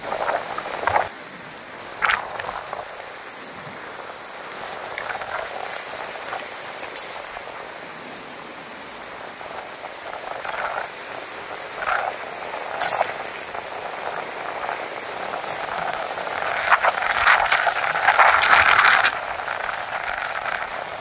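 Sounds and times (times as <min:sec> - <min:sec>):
heavy rain: 0:00.0 - 0:21.0
strong wind: 0:00.0 - 0:21.0.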